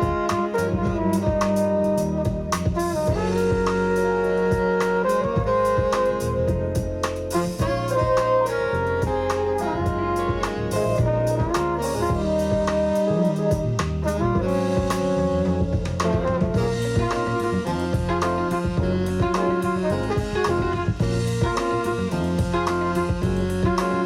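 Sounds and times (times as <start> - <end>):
busy drum kit: 0.0 - 24.0
saxophone melody: 0.0 - 24.0.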